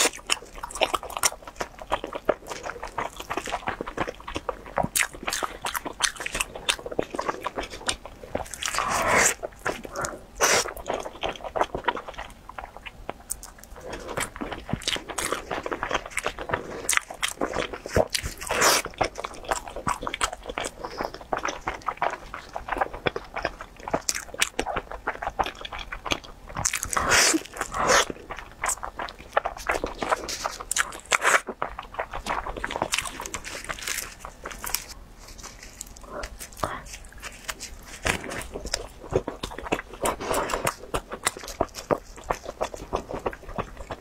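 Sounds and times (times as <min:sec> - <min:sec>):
chewing and biting: 0:00.0 - 0:44.0.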